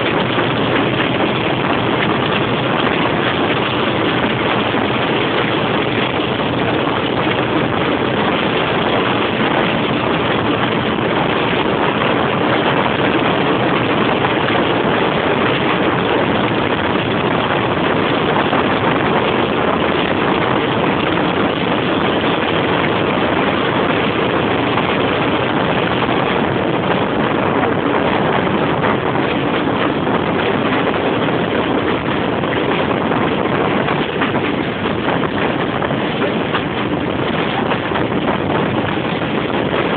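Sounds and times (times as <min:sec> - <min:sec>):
diesel locomotive engine: 0:00.0 - 0:39.9
rushing air: 0:00.0 - 0:39.9.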